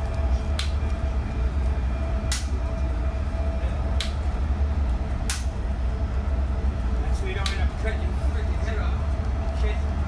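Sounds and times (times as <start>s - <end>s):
train car rumbling: 0.0s - 10.0s.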